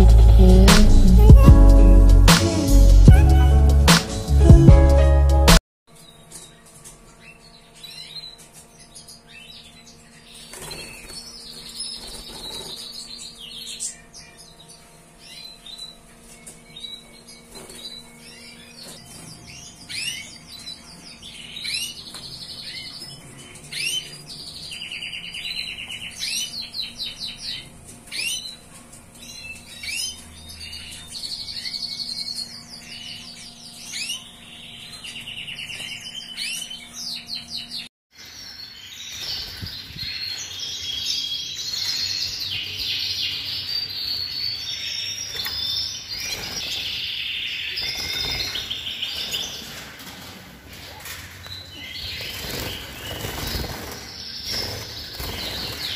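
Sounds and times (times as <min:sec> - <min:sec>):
canaries singing: 0:00.0 - 0:55.9.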